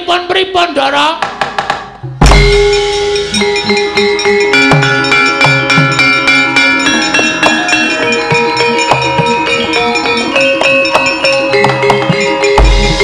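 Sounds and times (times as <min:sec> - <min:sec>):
gamelan playing: 0:02.2 - 0:13.0.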